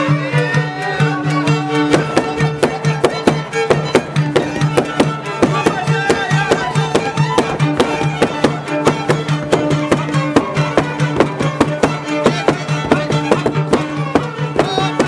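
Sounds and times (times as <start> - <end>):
fiddle playing fast dance tune: 0.0 - 15.0
sharp rhythmic knocks: 0.4 - 15.0.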